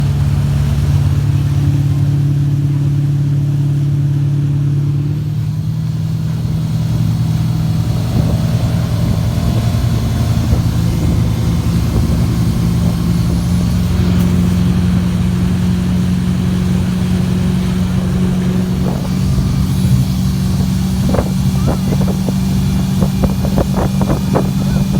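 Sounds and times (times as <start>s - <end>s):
motorboat engine running: 0.0s - 24.9s.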